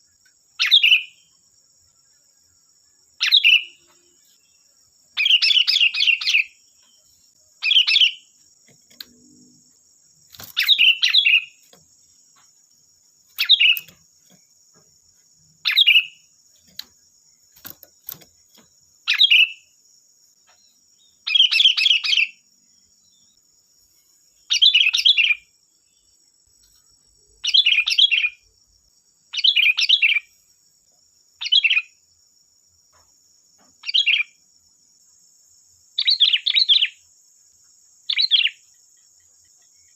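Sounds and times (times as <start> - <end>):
bulbul singing: 0.0 - 23.5, 24.3 - 30.4, 31.4 - 32.0, 33.6 - 34.5, 36.0 - 37.1, 37.9 - 39.9
faint high-pitched hiss: 0.0 - 39.9.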